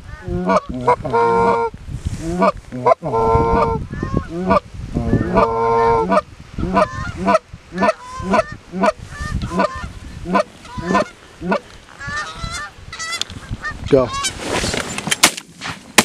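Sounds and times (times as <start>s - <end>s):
goose honking and clucking: 0.0s - 14.4s.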